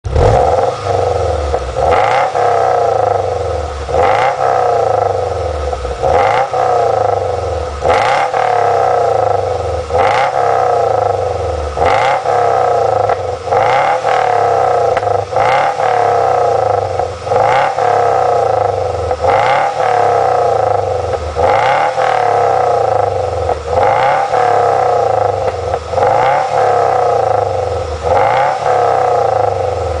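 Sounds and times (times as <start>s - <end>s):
car engine revving in blips: 0.0s - 30.0s.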